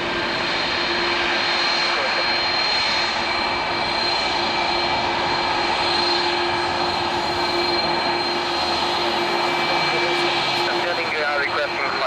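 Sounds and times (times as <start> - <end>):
constant whining tones: 0.0 - 12.0
engine hum: 0.0 - 12.0.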